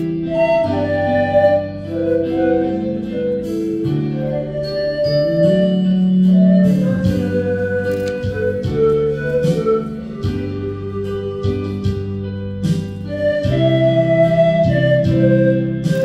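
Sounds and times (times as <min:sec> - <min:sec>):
backing track with bass: 0:00.0 - 0:16.0
pan flute melody: 0:00.0 - 0:16.0.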